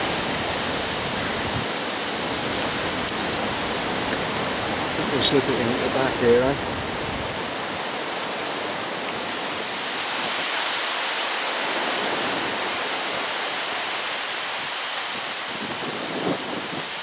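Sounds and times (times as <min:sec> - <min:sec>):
strong wind blowing: 0:00.0 - 0:10.8, 0:11.4 - 0:17.0.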